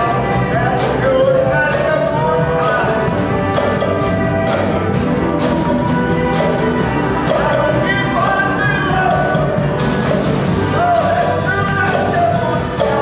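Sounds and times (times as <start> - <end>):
drums: 0.0 - 13.0
saxophone and horn section: 0.0 - 13.0.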